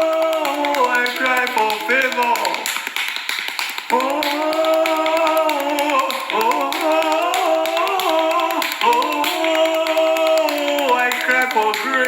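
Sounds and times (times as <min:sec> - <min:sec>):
person chanting a prayer: 0:00.0 - 0:02.9, 0:03.8 - 0:12.0
rhythmic tapping and clapping: 0:00.0 - 0:12.0.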